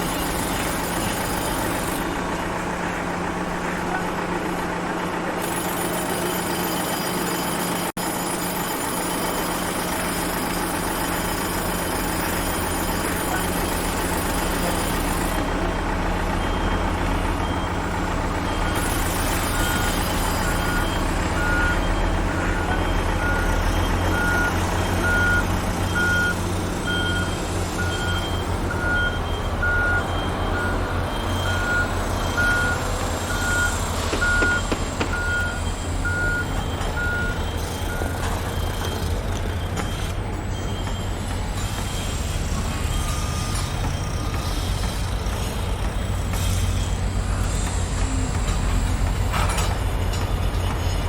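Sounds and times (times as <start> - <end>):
reversing alarm beeping: 0.0 - 2.1, 5.4 - 49.7.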